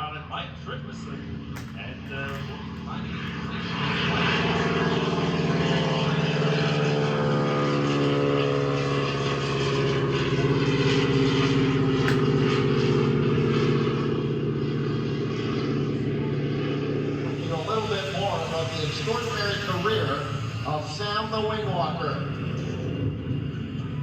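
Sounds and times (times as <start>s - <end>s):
propeller aircraft engine running: 0.0s - 24.0s.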